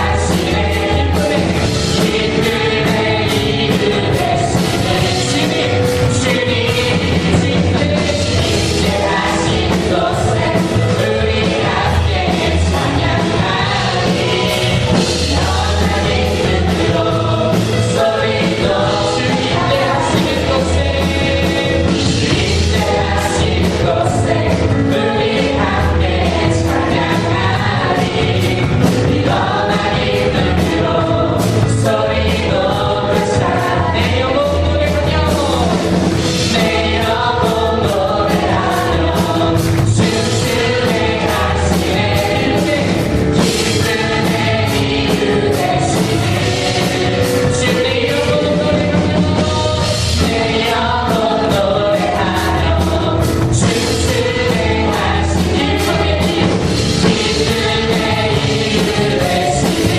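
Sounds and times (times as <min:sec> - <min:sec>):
band with steady beat and bass: 0:00.0 - 0:59.9
group singing worship song: 0:00.0 - 0:59.9.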